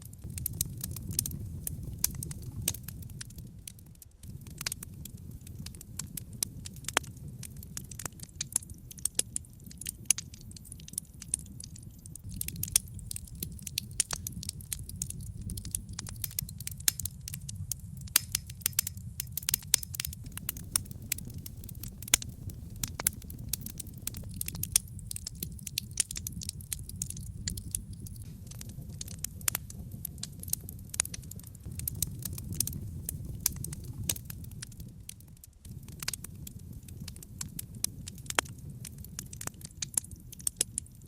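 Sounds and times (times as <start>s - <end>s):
logs crackling and popping: 0.0s - 41.0s
low rumble of flames: 0.0s - 41.0s.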